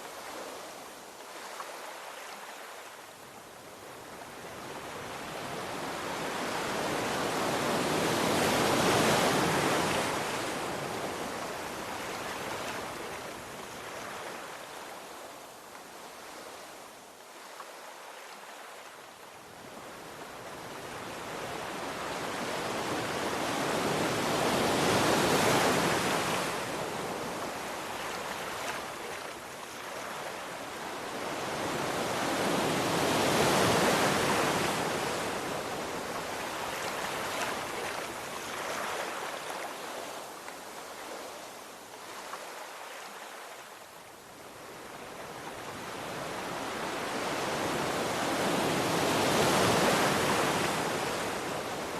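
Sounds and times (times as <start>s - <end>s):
sea waves washing ashore: 0.0s - 51.9s.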